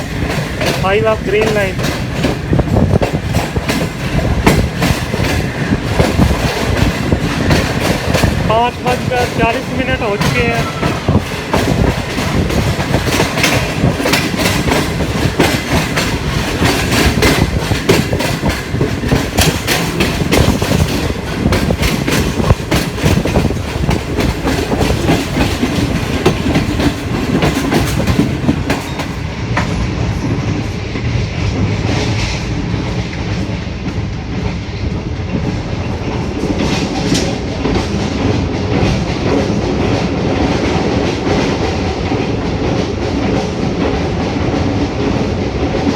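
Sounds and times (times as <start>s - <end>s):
train wheels clattering on rails: 0.0s - 45.9s.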